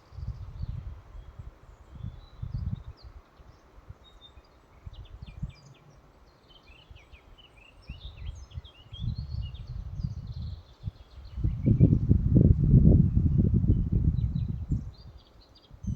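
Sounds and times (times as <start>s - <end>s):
wind rumbling on microphone: 0.0s - 5.8s, 7.8s - 15.9s
songbirds chirping and trilling: 0.0s - 12.3s, 13.0s - 15.9s.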